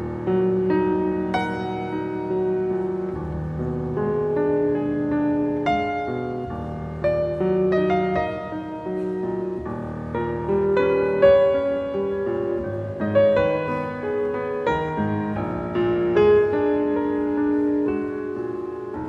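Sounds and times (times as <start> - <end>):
solo classical piano: 0.0 - 19.0.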